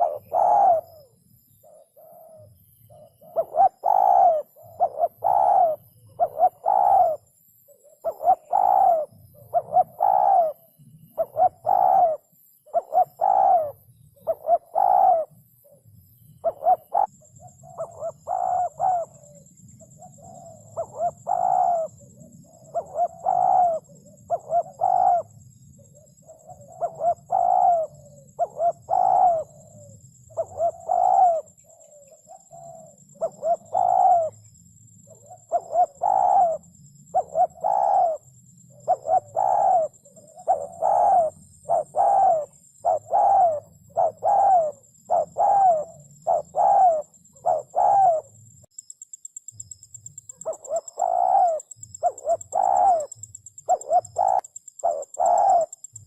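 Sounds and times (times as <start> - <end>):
dove cooing: 0.0 - 48.5, 50.2 - 56.0.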